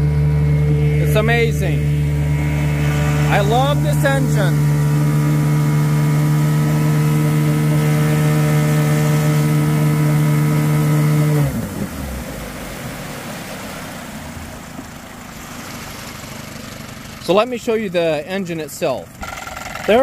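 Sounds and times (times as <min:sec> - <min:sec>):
outboard motor running: 0:00.0 - 0:20.0
water wash: 0:00.0 - 0:20.0.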